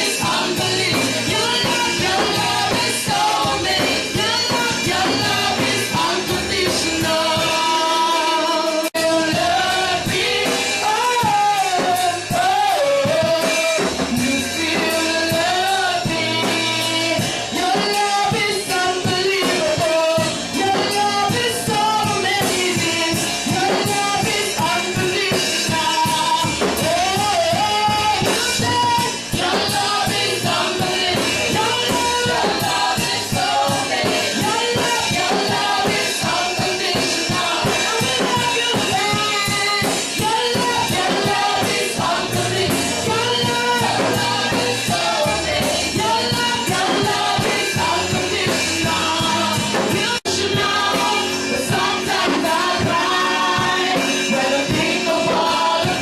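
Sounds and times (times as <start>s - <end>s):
drum kit beat: 0.0s - 56.0s
gospel song with band: 0.0s - 56.0s.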